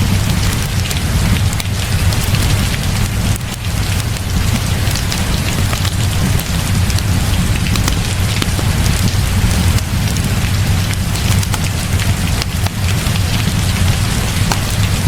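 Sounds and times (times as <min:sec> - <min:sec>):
heavy rain falling: 0:00.0 - 0:15.0
small sharp ticks: 0:00.0 - 0:15.0.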